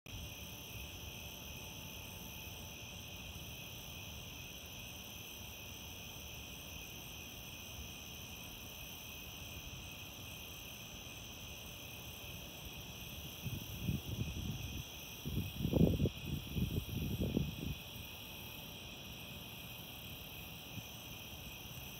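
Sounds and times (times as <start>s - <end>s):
crickets and insects chirring: 0.1s - 21.9s.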